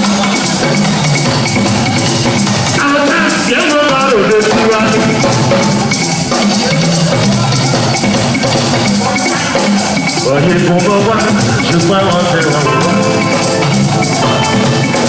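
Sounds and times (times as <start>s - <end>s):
live band playing dance music: 0.0s - 15.0s.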